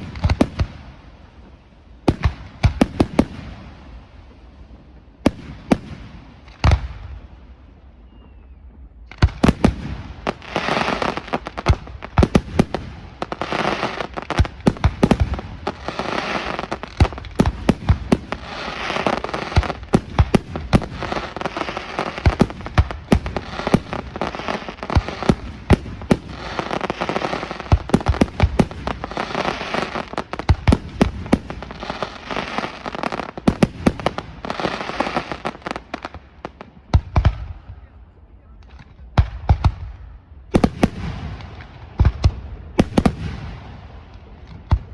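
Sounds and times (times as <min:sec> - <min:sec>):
firework crackling: 0:00.0 - 0:07.1, 0:09.1 - 0:37.5, 0:40.6 - 0:44.9.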